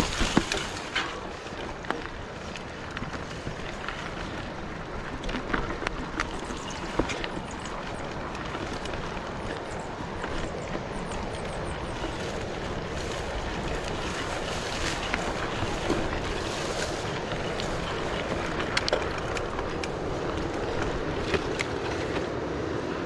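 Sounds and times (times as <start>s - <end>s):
footsteps on dirt track: 0.0s - 23.0s.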